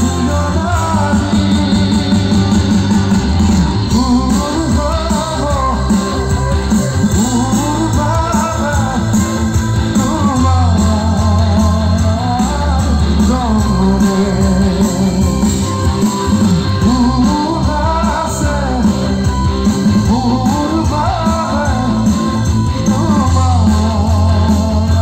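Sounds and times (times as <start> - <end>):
live band over pa: 0.0 - 25.0
man singing: 0.0 - 25.0.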